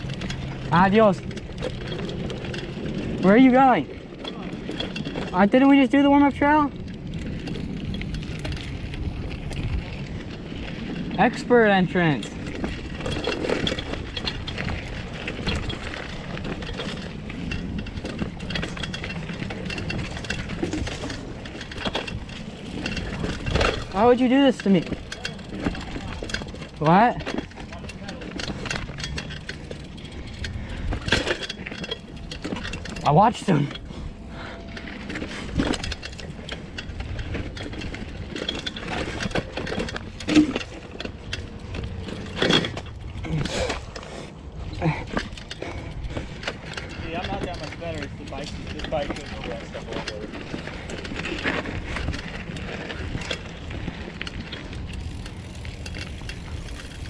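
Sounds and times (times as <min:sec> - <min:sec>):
bicycle tyres rumbling on dirt: 0:00.0 - 0:57.0
mountain bike rattling on trail: 0:00.0 - 0:57.0.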